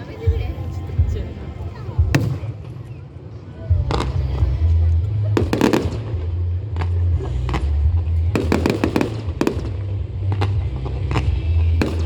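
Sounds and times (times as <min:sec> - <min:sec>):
fireworks cracking and crackling: 0:01.9 - 0:12.0.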